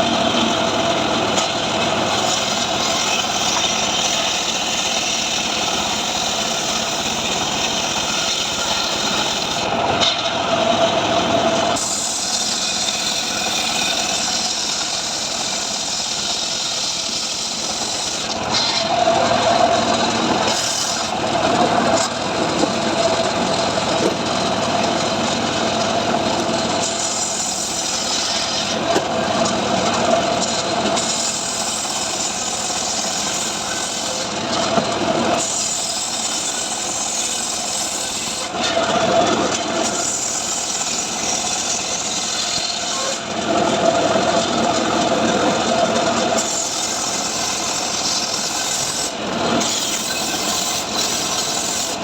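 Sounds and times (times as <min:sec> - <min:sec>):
power saw cutting wood: 0:00.0 - 0:52.0.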